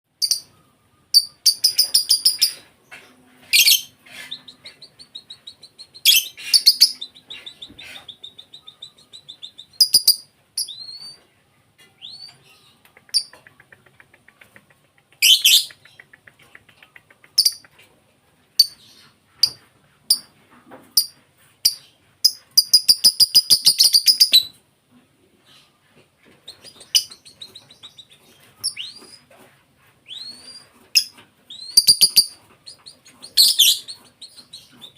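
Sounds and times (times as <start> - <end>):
lovebird chirping and chattering: 0.2 - 11.2, 12.0 - 17.8, 18.6 - 20.3, 21.0 - 24.6, 26.4 - 29.4, 30.0 - 34.9.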